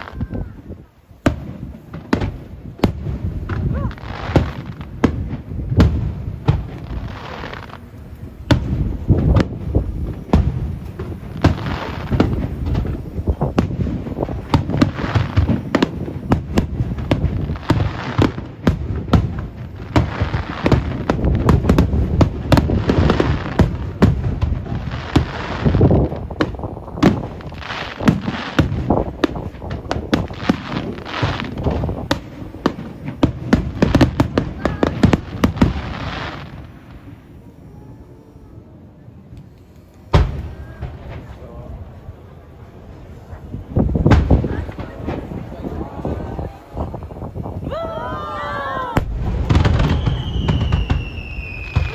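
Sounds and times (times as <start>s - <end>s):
fireworks booming and crackling: 0.0s - 38.1s, 38.7s - 51.9s.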